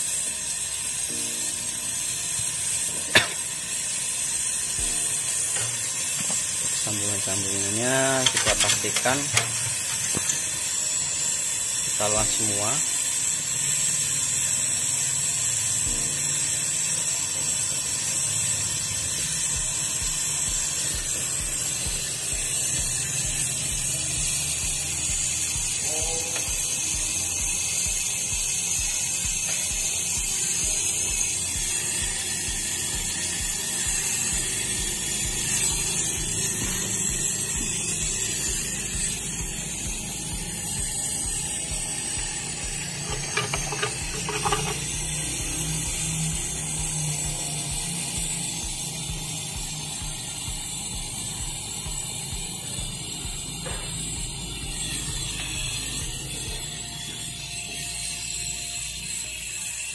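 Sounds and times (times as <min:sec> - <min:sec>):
torch flame hissing: 0:00.0 - 0:59.9.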